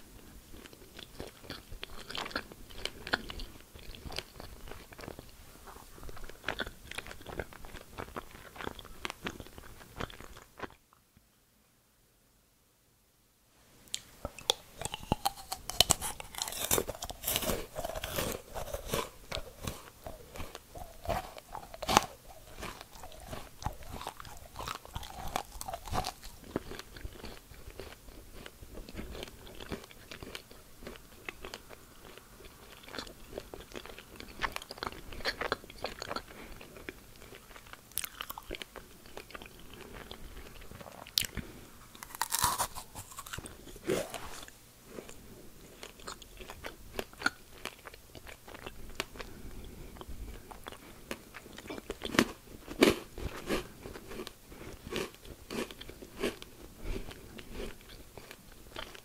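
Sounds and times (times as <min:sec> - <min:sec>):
crunchy bites and chewing: 0:00.6 - 0:05.3, 0:06.1 - 0:10.8, 0:14.0 - 0:49.4, 0:50.0 - 0:59.0.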